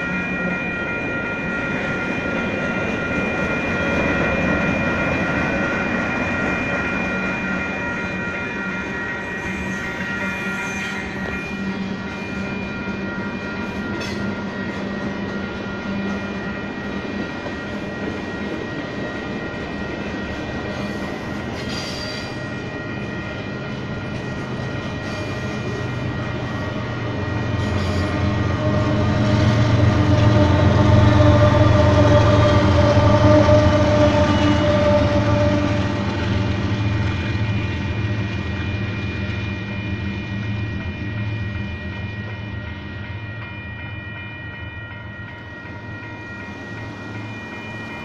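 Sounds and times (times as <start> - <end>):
crossing warning bells ringing: 0.0 - 48.0
freight train wheels rumbling: 0.0 - 48.0.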